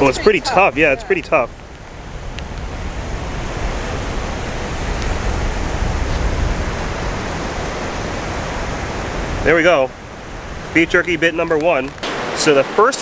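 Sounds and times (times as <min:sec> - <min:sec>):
wind buffeting microphone: 0:00.0 - 0:12.4
ocean surf: 0:00.0 - 0:13.0.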